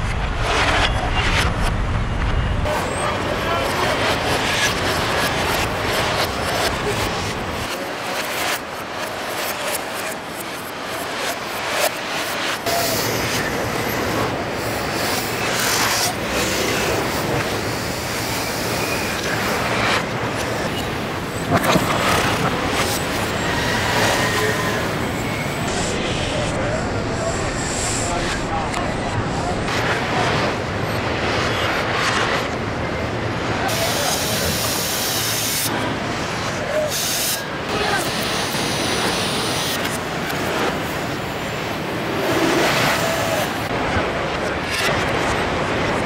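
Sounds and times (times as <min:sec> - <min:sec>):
factory floor noise: 0:00.0 - 0:46.0.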